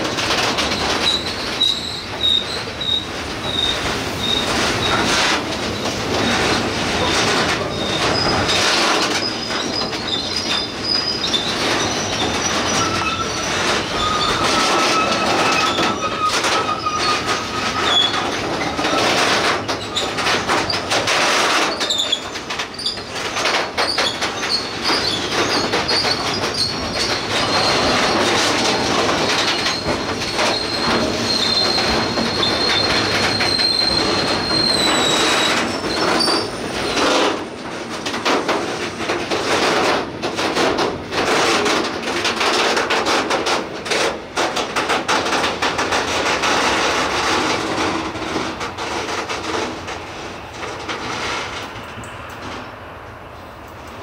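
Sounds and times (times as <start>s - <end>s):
wheels squealing: 0.0s - 51.6s
wheels clacking over track: 0.0s - 52.7s
train wagons rolling on rails: 0.0s - 54.0s.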